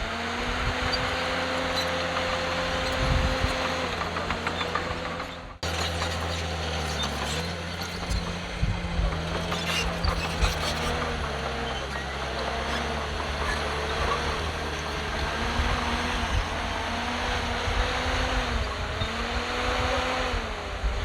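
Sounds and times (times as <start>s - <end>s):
diesel machinery running under load: 0.0s - 21.0s.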